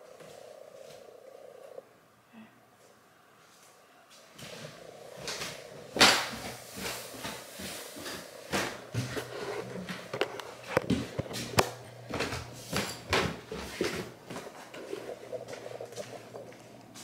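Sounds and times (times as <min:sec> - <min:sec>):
footsteps: 0:02.8 - 0:17.0.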